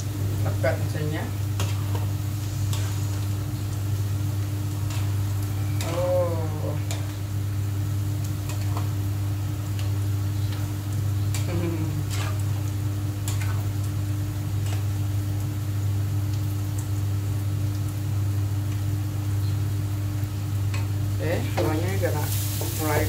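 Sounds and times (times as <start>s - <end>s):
onions frying hiss: 0.0s - 23.0s.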